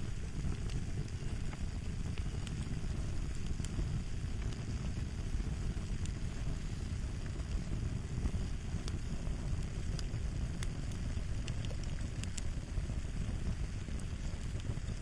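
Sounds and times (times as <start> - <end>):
fire popping and snapping: 0.0 - 15.0
wood fire crackling: 0.0 - 15.0.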